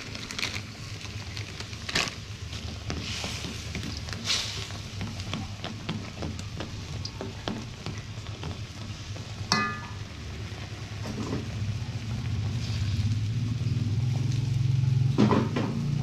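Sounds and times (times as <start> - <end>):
food sizzling in a pan: 0.0 - 16.0
low steady hum: 0.0 - 16.0.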